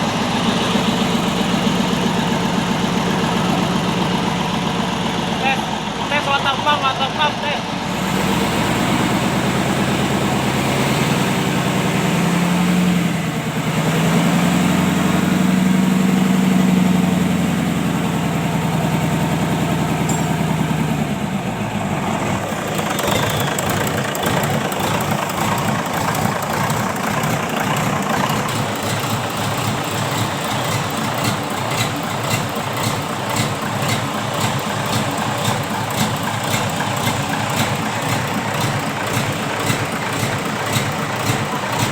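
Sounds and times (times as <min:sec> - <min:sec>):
diesel engine revving and idling: 0:00.0 - 0:41.9.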